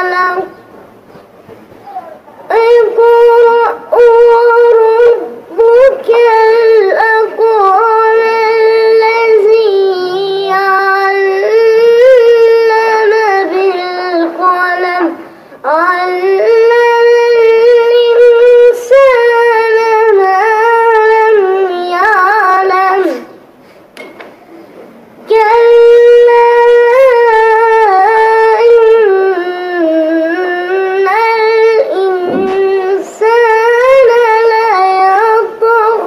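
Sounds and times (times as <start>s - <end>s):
boy chanting recitation: 0.0s - 23.5s, 25.2s - 36.0s.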